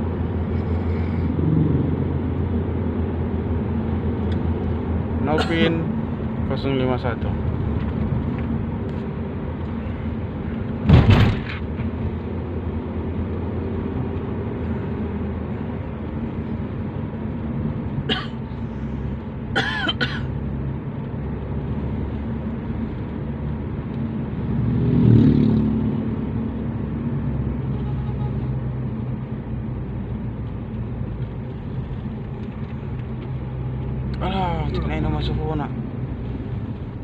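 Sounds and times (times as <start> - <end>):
car engine and road drone: 0.0 - 37.0.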